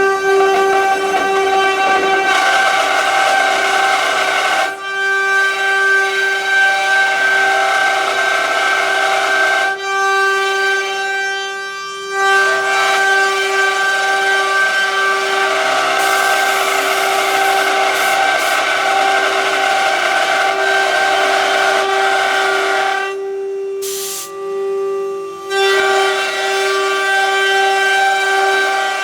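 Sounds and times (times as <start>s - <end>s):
router spindles whining: 0.0s - 11.3s, 12.4s - 29.0s
router cutting wood: 0.0s - 29.0s.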